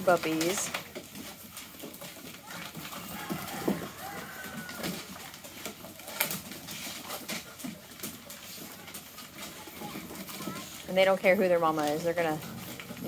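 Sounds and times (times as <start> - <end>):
claws clicking on wooden boards: 0.0 - 13.0
puppies squeaking and grunting: 0.0 - 13.0.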